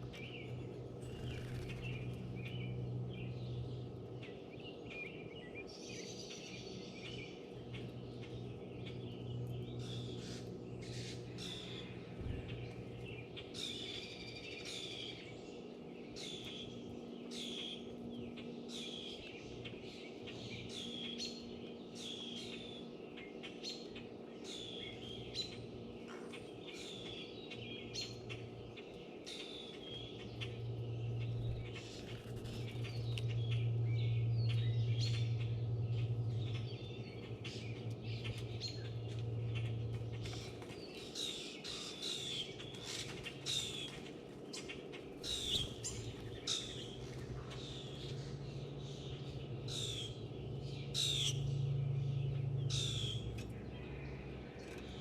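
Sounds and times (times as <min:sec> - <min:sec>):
low steady hum: 0:00.0 - 0:55.0
songbirds chirping: 0:00.0 - 0:55.0.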